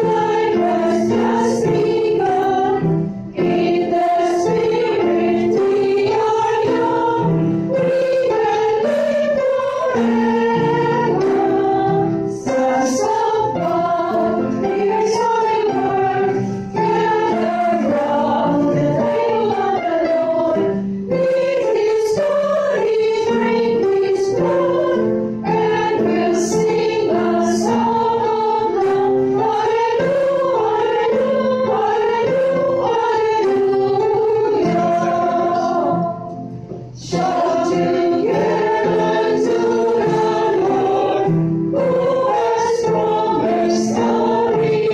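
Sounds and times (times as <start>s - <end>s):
small choir singing: 0.0s - 44.9s.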